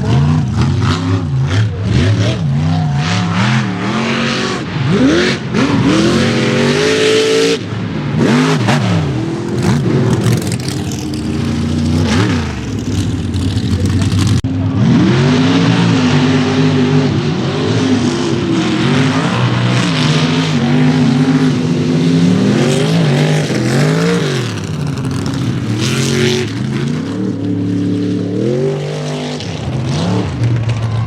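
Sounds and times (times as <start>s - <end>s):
truck engine revving hard: 0.0s - 31.0s.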